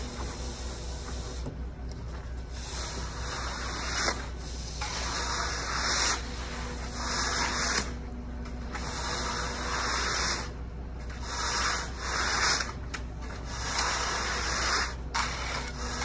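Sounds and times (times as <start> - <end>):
floats scraping wet concrete: 2.5 - 16.0.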